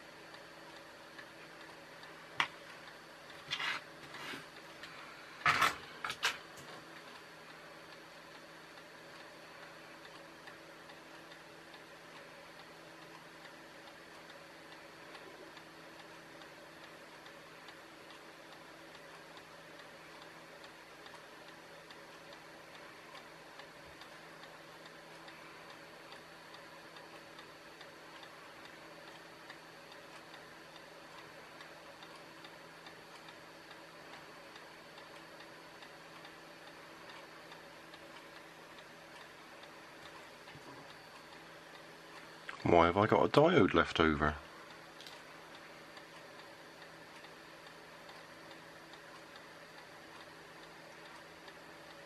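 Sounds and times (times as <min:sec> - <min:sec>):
faint steady ticking: 0:00.0 - 0:05.4, 0:06.4 - 0:52.0.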